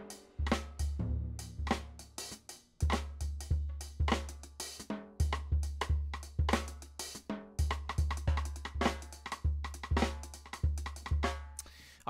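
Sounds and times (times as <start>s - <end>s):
drum kit playing a groove: 0.0s - 11.7s.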